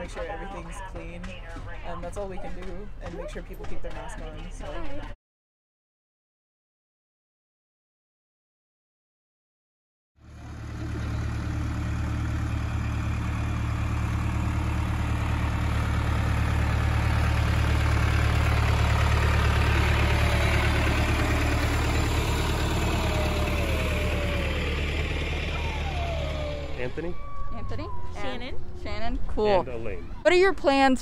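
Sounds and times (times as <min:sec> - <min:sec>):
tractor diesel engine running: 0:00.0 - 0:05.2, 0:10.2 - 0:30.9.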